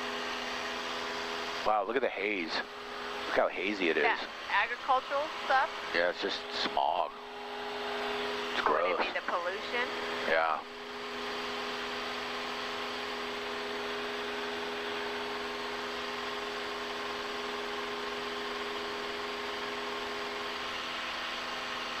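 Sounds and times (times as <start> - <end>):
airplane engine drone in cabin: 0.0 - 22.0.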